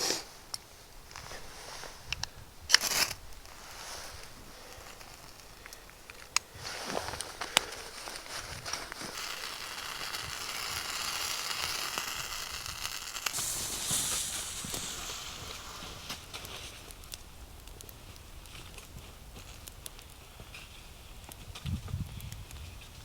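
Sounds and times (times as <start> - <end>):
fire popping: 0.0 - 23.0
wood fire crackling: 0.1 - 23.0.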